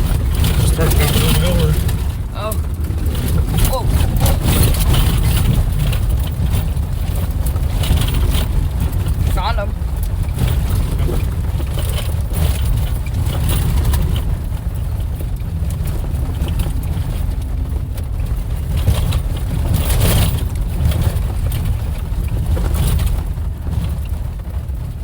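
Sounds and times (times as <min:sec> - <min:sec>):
knocks and rattles from bumps: 0:00.0 - 0:25.0
off-road vehicle rumbling: 0:00.0 - 0:25.0.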